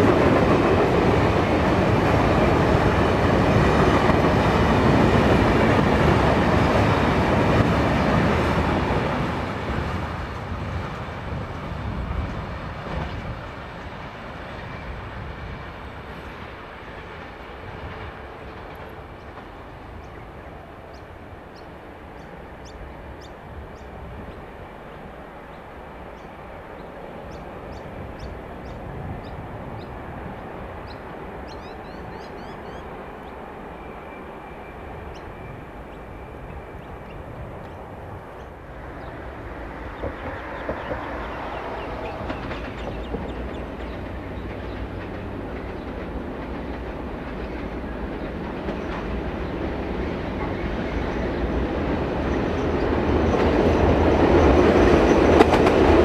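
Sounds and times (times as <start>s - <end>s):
freight train rolling over rails: 0.0s - 56.0s.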